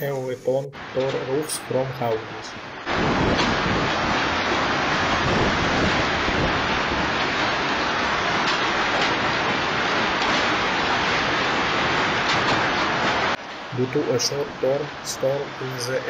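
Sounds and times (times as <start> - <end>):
hail and heavy rain on pavement: 2.7 - 16.0.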